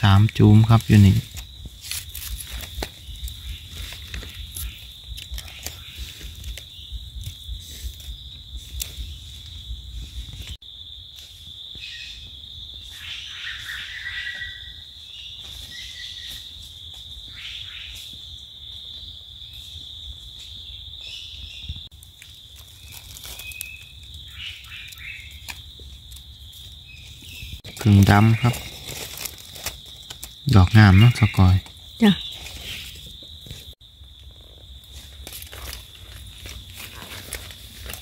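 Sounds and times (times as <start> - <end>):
insect drone: 0.0 - 38.0.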